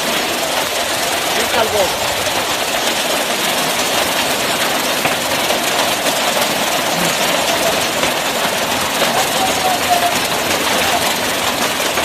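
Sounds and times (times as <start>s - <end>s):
hail and rain falling: 0.0s - 12.0s.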